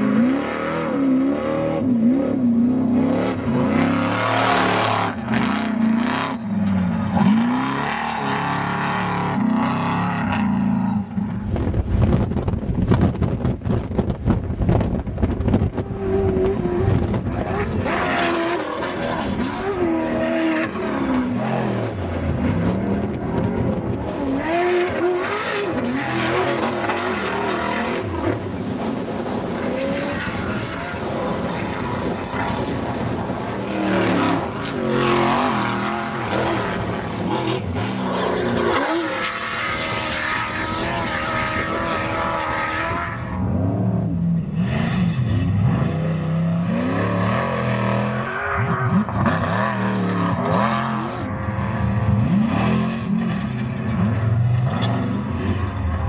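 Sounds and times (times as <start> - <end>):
race vehicle engines revving: 0.0 - 56.0.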